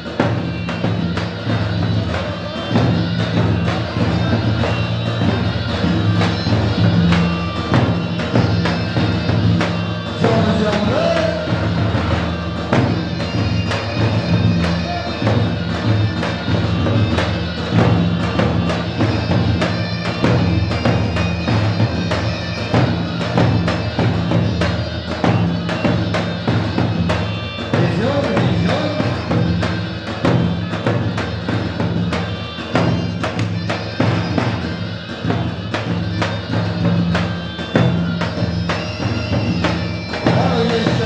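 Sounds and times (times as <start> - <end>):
drum strikes: 0.0 - 41.0
folk dance music: 0.0 - 41.0.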